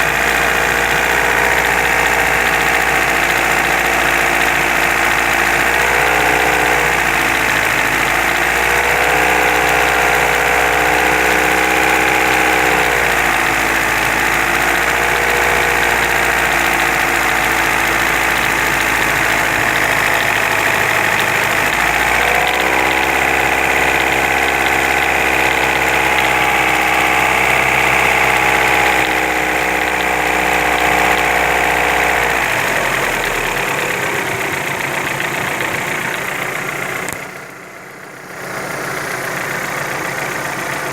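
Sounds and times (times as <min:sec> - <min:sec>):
car engine revving with knock: 0:00.0 - 0:40.9.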